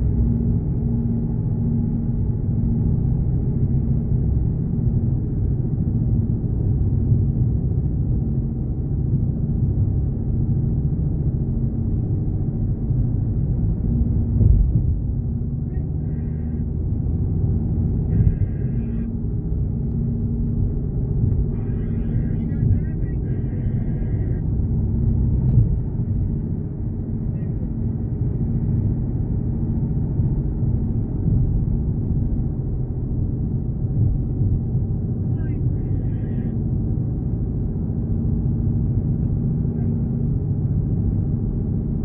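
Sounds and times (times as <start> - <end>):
car cabin road rumble: 0.0 - 42.0
steady hum: 0.0 - 42.0.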